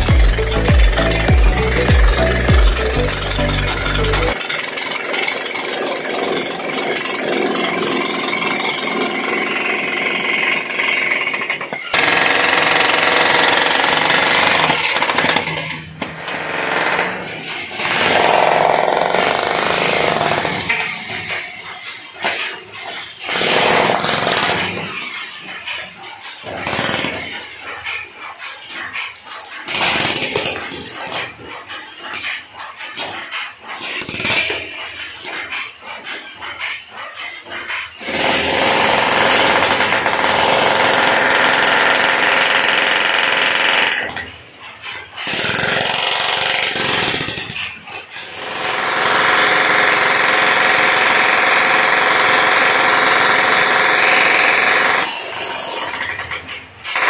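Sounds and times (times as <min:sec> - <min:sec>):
demolition breaker hammering concrete: 0:00.0 - 0:27.9, 0:29.3 - 0:36.3, 0:37.3 - 0:44.3, 0:45.2 - 0:57.0.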